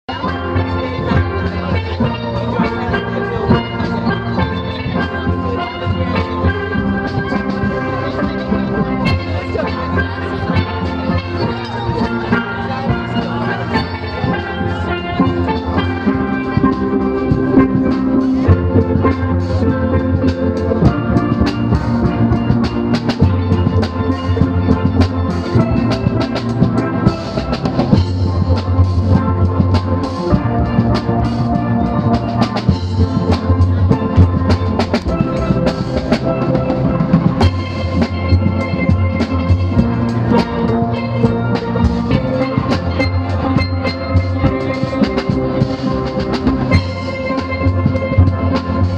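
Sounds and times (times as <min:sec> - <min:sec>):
steel pan band playing: 0:00.0 - 0:48.9.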